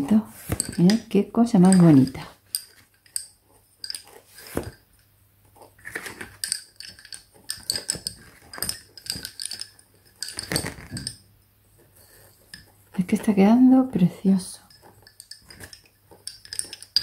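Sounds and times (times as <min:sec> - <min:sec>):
lace bobbins clacking: 0:00.0 - 0:17.0.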